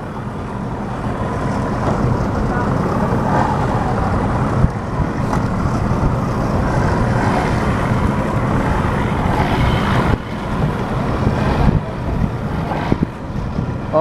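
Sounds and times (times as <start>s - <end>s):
outboard engine running: 0.0s - 14.0s
wind on microphone: 0.0s - 14.0s.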